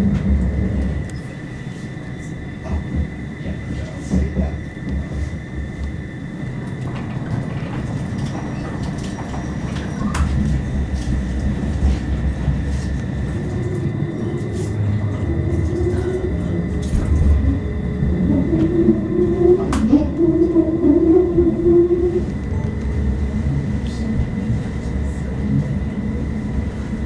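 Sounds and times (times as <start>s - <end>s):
wheels rumbling on rail: 0.0s - 27.0s.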